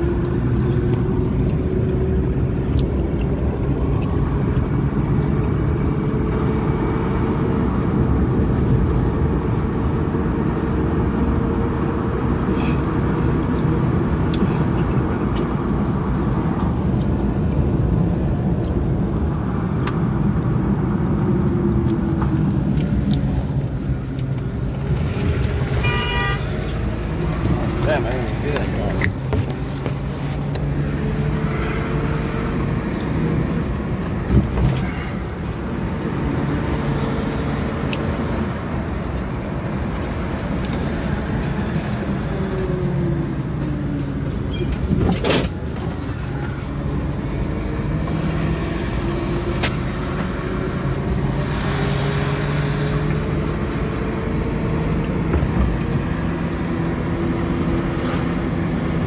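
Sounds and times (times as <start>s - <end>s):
car engine while driving: 0.0s - 59.0s.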